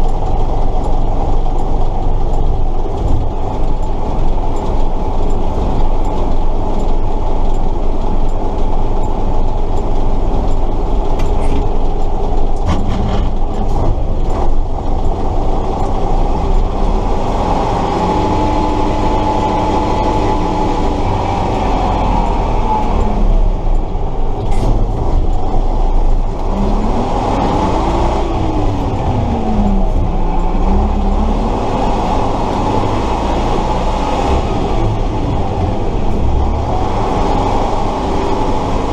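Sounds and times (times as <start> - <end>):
diesel truck engine running: 0.0 - 38.9
drivetrain rattling: 0.0 - 38.9.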